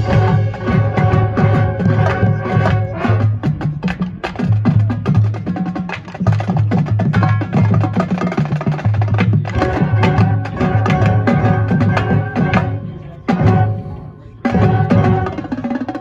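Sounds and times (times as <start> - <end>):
marching band playing: 0.0 - 16.0
rapid drum strikes: 0.0 - 16.0.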